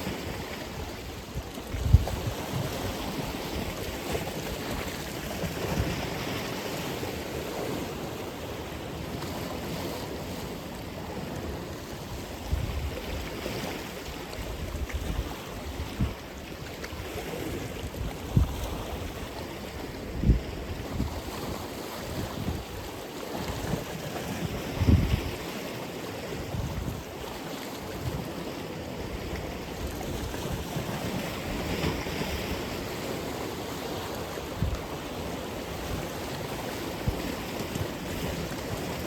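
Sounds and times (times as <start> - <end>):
ocean waves breaking: 0.0 - 39.0.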